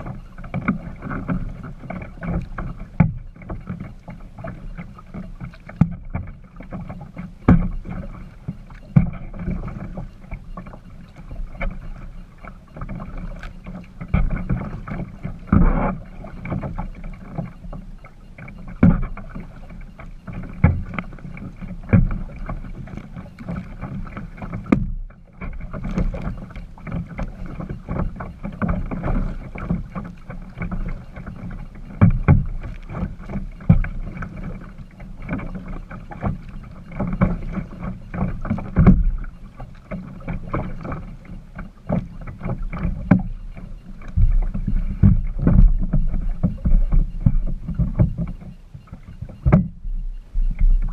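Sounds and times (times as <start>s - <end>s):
paddle splashing with knock: 0.0s - 49.8s
water rumbling against hull: 0.0s - 50.9s.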